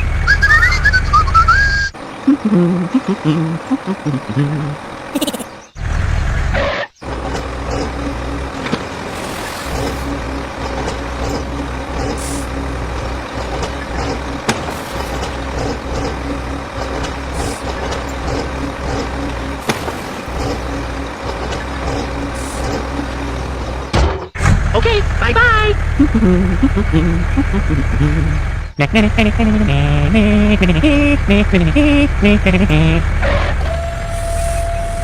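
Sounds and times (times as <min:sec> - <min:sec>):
heavy vehicle engine rumbling: 0:00.0 - 0:35.0.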